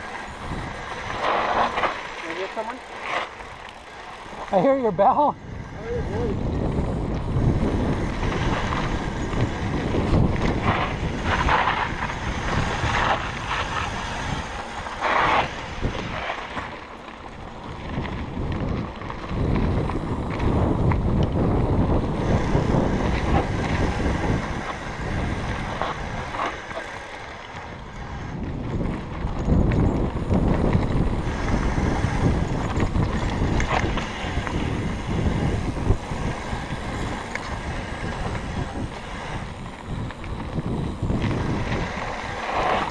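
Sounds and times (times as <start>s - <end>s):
mountain bike rattling on dirt: 0.0s - 42.9s
wind buffeting microphone: 0.0s - 42.9s.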